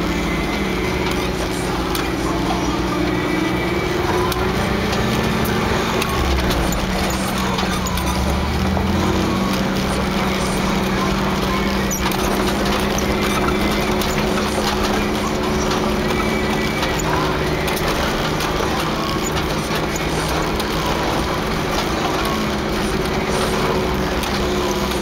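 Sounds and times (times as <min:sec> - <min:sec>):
engine drone: 0:00.0 - 0:25.0
car body rattling and knocking: 0:04.2 - 0:25.0.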